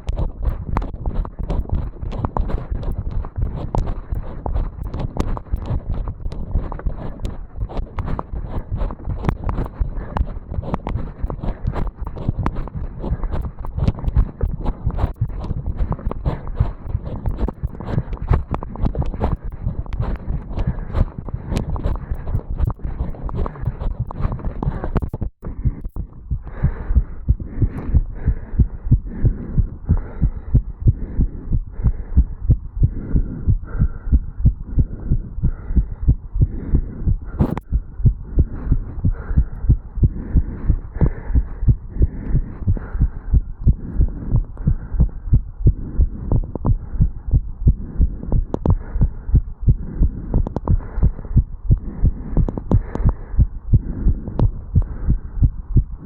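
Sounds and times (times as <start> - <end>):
fast heartbeat thumps: 0.0 - 56.0.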